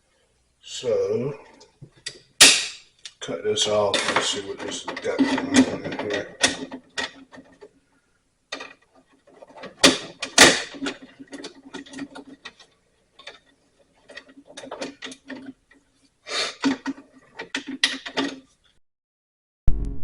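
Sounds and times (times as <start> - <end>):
hand tools and metal parts rattling: 1.6 - 7.8, 8.5 - 18.8.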